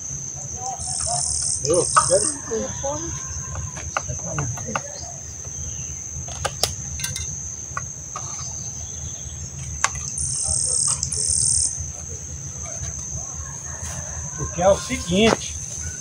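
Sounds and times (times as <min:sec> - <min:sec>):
harsh insect buzz: 0:00.0 - 0:16.0
insects trilling: 0:00.0 - 0:16.0.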